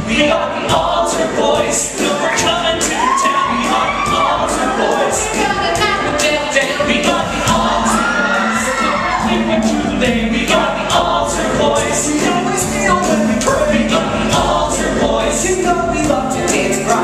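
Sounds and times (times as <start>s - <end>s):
band accompaniment: 0.0s - 17.0s
men singing together: 0.0s - 17.0s.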